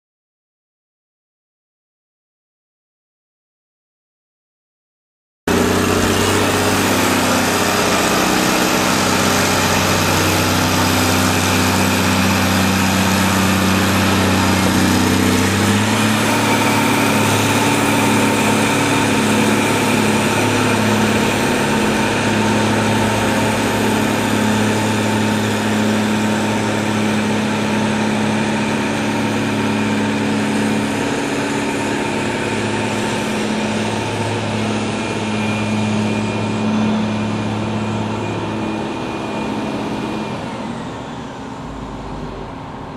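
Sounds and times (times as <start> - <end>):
diesel engine running: 5.5 - 42.9.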